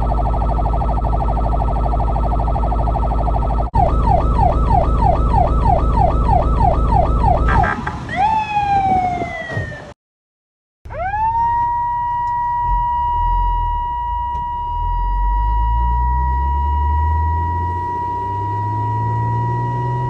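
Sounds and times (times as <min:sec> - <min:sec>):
low rumble: 0:00.0 - 0:08.0, 0:10.9 - 0:20.0
fire truck siren: 0:00.0 - 0:09.9, 0:10.9 - 0:20.0.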